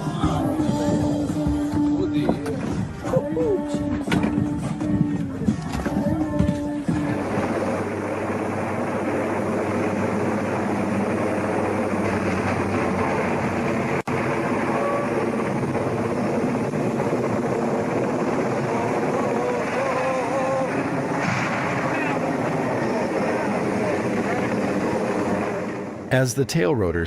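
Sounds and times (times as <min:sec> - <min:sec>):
aircraft engines running: 0:00.0 - 0:27.0.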